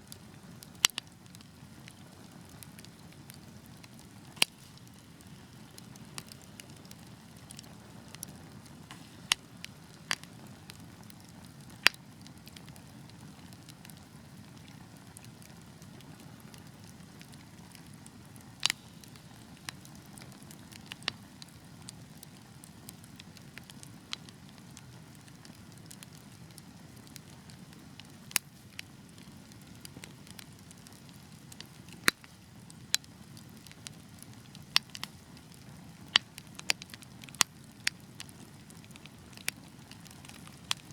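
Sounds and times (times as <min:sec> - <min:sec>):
low rush of flames: 0:00.0 - 0:40.9
wood fire crackling and popping: 0:00.0 - 0:40.9.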